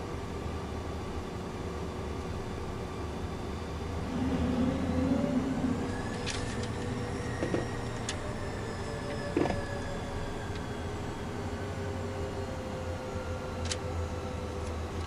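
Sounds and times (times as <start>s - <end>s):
jet cabin engine and airflow hum: 0.0s - 15.0s.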